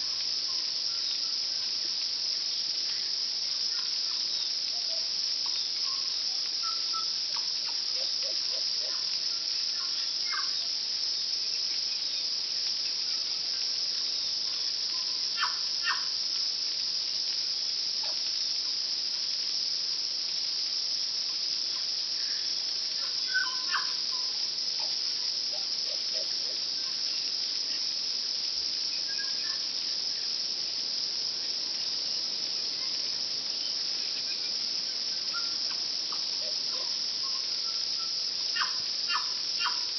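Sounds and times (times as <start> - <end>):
high insect chorus: 0.0 - 39.9.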